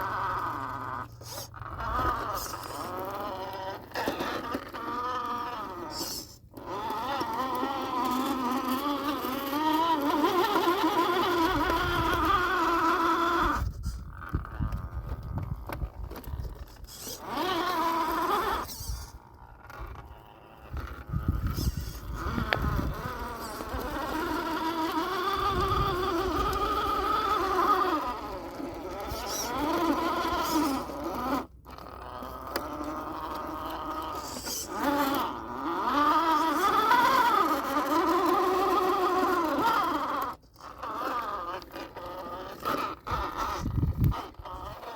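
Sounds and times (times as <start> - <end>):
toy car electric motor whining: 0.0 - 44.9.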